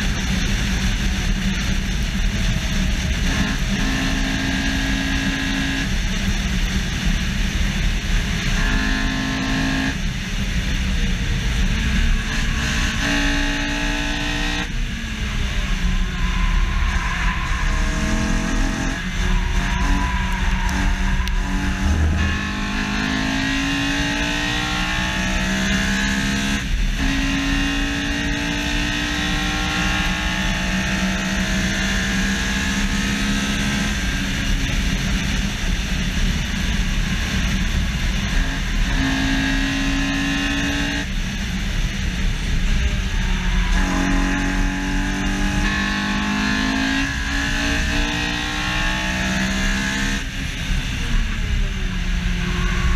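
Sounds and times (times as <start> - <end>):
car engine at full throttle: 0.0 - 52.9.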